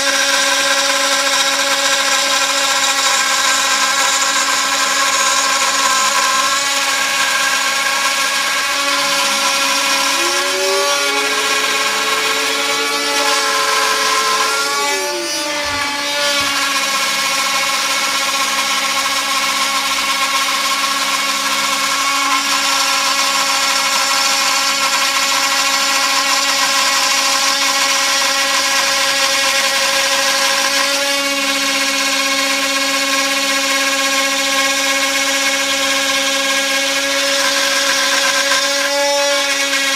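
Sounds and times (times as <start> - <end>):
router bit cutting wood: 0.0 - 39.9
router motor whining hum: 0.0 - 39.9.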